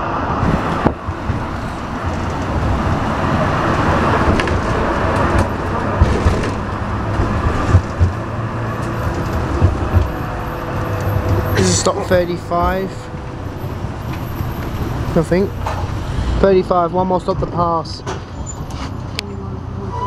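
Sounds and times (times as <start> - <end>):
tram wheels rumbling on rails: 0.0 - 20.0
tram body rattle: 0.4 - 16.4.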